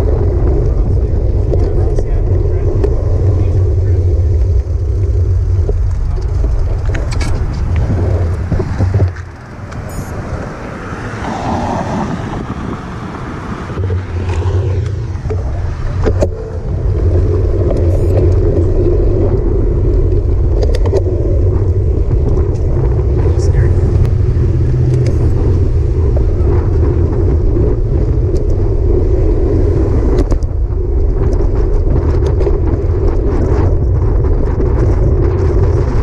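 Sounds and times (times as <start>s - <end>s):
street and car noise: 0.0s - 36.0s
wind rumbling on microphone: 0.0s - 36.0s.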